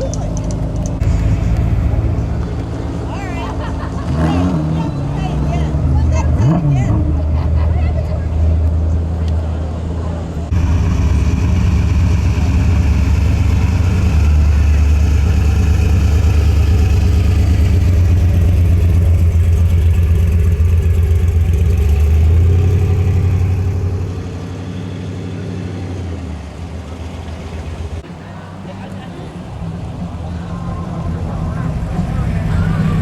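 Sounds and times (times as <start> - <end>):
car engine deep pulsing rumble: 0.0 - 33.0.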